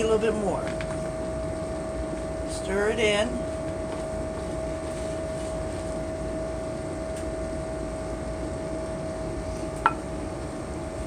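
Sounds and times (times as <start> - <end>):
constant humming tone: 0.0 - 11.0.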